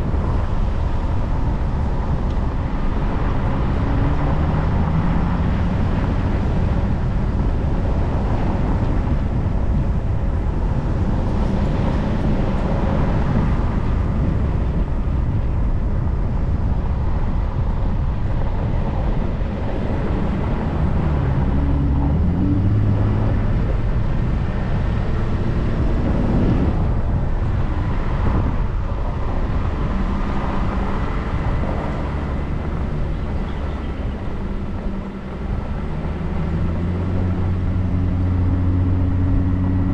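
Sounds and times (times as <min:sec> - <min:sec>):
car engine revving: 0:00.0 - 0:14.0, 0:19.1 - 0:39.9
tyres rumbling on dirt road: 0:00.0 - 0:39.9.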